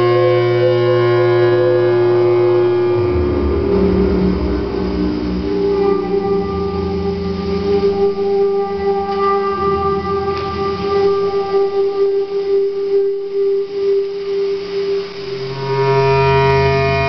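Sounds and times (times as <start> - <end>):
low drone: 0.0 - 17.0
synthesizer sustained tone: 0.0 - 17.0.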